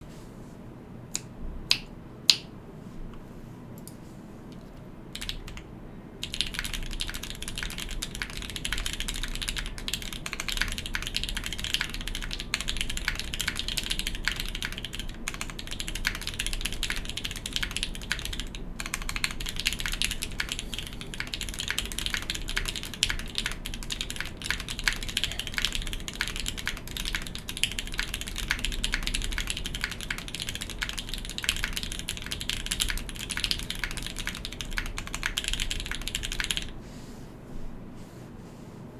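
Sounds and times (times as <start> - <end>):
mechanical keyboard typing: 4.6 - 36.7.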